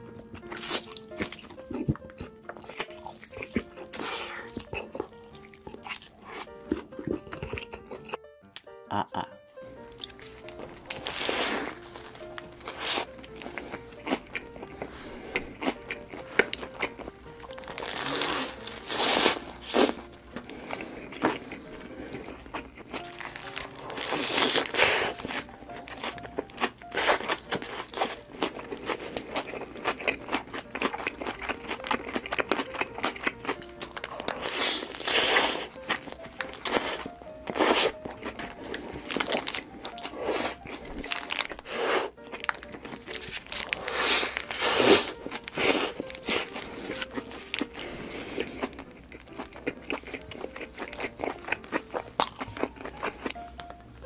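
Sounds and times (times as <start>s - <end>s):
biting and chewing sandwich: 0.0s - 8.7s, 9.6s - 53.8s
soft background music: 0.0s - 54.0s.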